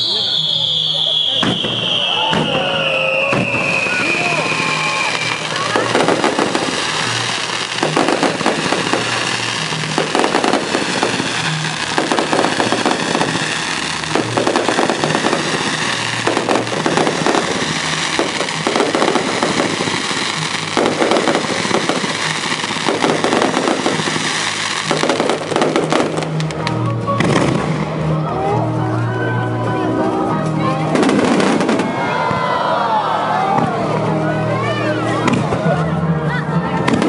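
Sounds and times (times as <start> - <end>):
fireworks bangs and crackle: 0.0 - 28.3, 30.6 - 32.7, 35.2 - 35.8, 36.7 - 37.0.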